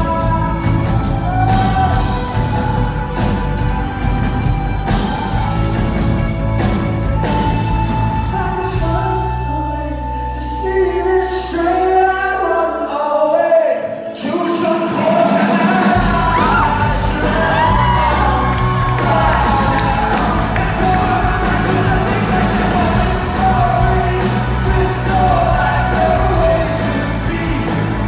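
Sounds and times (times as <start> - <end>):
drums: 0.0 - 12.9, 13.9 - 28.0
lead vocal singing: 0.0 - 28.0
live pop-rock band: 0.0 - 28.0.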